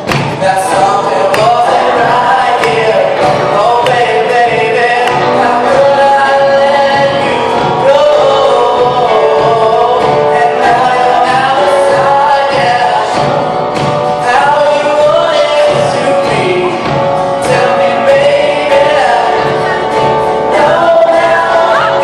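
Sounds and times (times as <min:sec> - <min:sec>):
live band playing: 0:00.0 - 0:22.0
man singing: 0:00.0 - 0:22.0.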